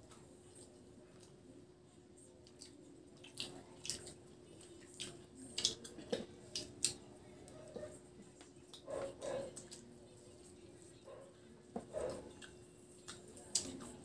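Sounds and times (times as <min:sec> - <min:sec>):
faint steady hum: 0:00.0 - 0:14.0
people chewing and lip-smacking: 0:00.0 - 0:14.0.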